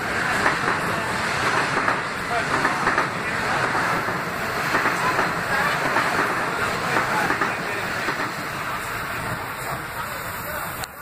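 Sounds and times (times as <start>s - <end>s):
electric train passing: 0.0s - 11.0s.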